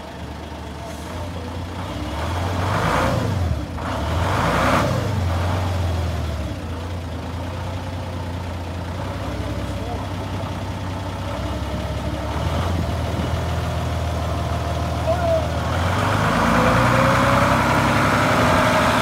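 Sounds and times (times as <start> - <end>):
forklift engine revving and idling: 0.0 - 19.0.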